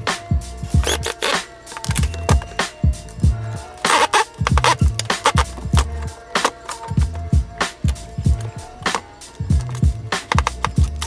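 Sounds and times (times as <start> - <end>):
drum beat of kick and snare: 0.0 - 11.0.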